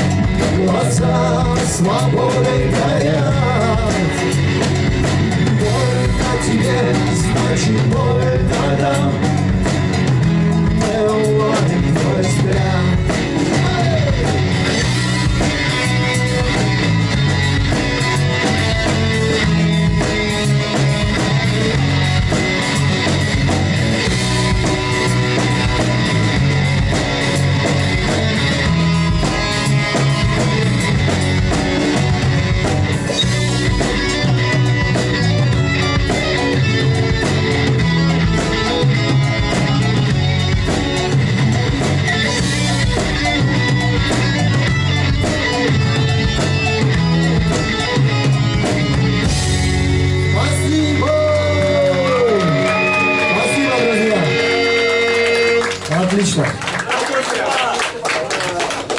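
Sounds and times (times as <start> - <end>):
bass guitar: 0.0 - 56.9
drum kit: 0.0 - 56.9
electric guitars: 0.0 - 58.9.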